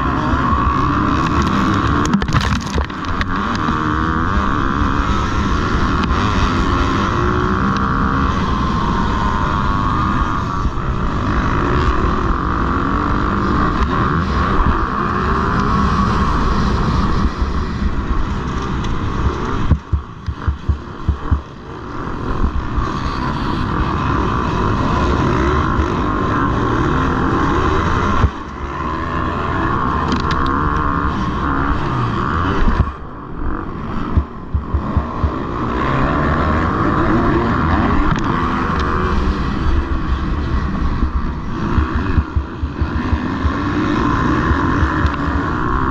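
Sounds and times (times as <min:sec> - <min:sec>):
motocross bike engine running hard: 0:00.0 - 0:45.9.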